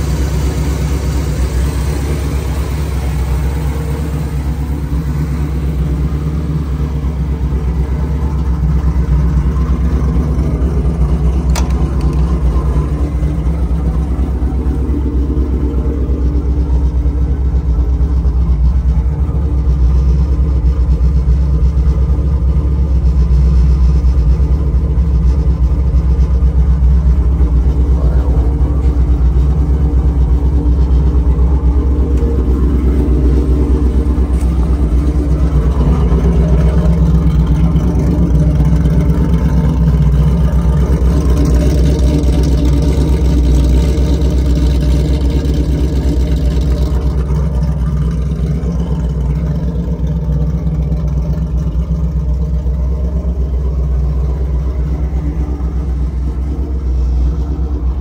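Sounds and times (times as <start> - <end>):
vee eight engine idling: 0.0 - 58.0.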